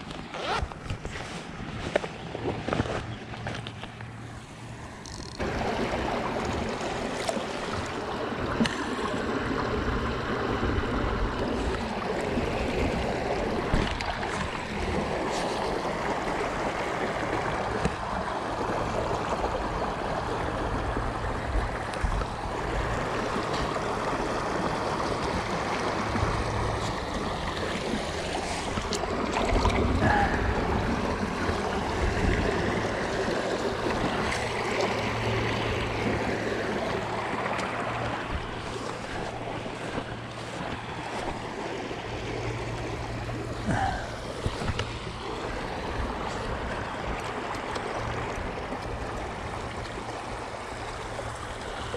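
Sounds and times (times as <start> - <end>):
creek water rushing: 0.0 - 51.9
wind rumble on microphone: 5.4 - 51.9.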